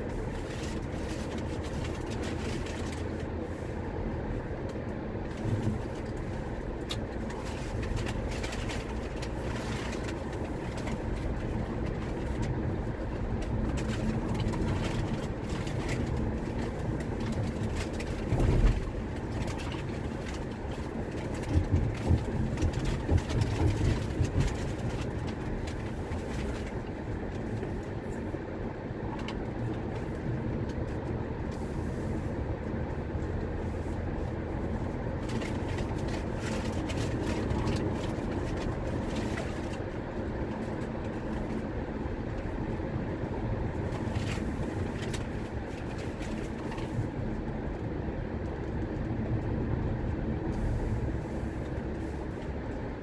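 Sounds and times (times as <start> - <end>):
engine and tyre rumble: 0.0 - 53.0.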